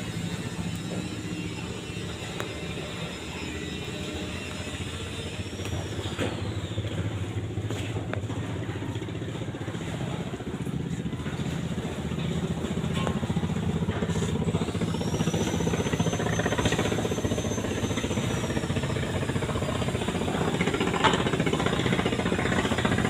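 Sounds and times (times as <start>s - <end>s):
engine running with fast pulse: 0.0s - 23.0s.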